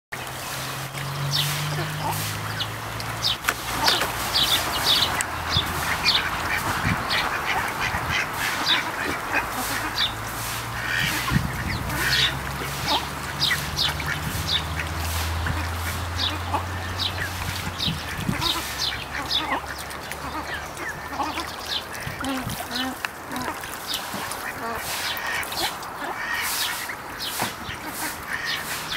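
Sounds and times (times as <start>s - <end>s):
ducks quacking: 1.2s - 28.9s.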